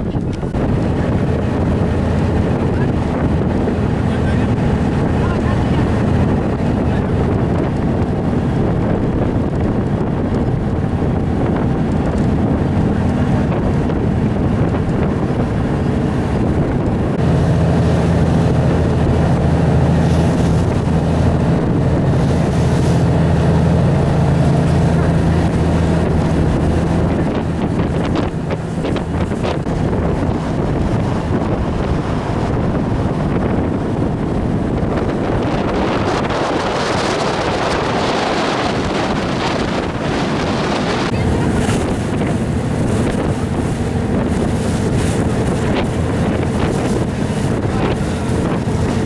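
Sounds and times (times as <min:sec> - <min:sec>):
boat engine running: 0:00.0 - 0:49.0
rushing water: 0:00.0 - 0:49.0
wind buffeting microphone: 0:00.0 - 0:49.0.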